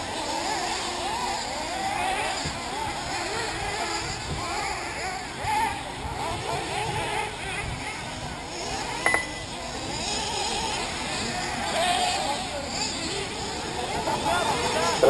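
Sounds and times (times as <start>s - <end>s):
rc car engines buzzing: 0.0s - 15.0s.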